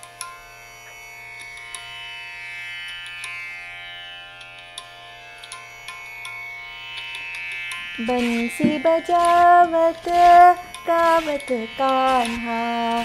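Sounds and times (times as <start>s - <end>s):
instrumental music with drone: 0.0s - 13.0s.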